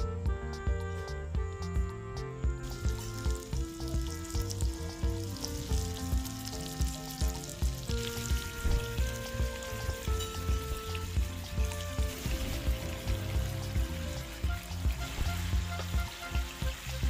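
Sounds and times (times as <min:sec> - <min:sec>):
background music with beat: 0:00.0 - 0:17.0
shrimp sizzling in butter: 0:02.6 - 0:17.0.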